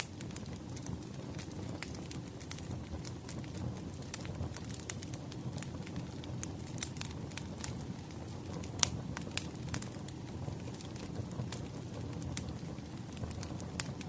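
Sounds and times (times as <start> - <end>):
burning logs rumbling: 0.0 - 14.0
fire popping and snapping: 0.0 - 14.0.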